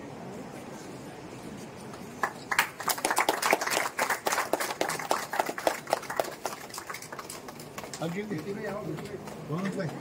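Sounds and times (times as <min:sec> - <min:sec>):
people clapping: 0:01.9 - 0:10.0.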